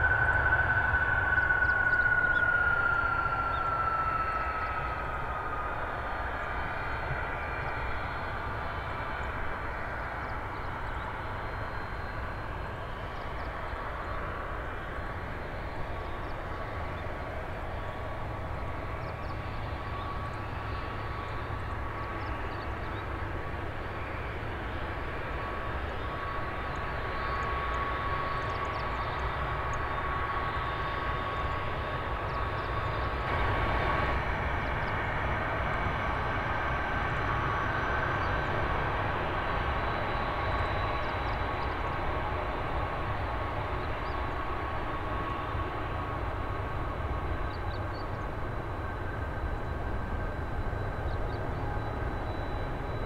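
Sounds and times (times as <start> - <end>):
jet engine whine: 0.0 - 53.0.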